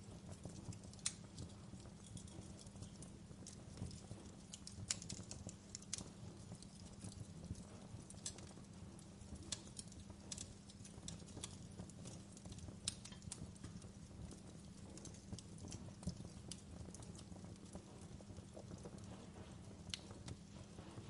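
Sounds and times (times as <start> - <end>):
low rumble of burning: 0.0 - 21.0
wood fire crackling and popping: 0.0 - 21.0.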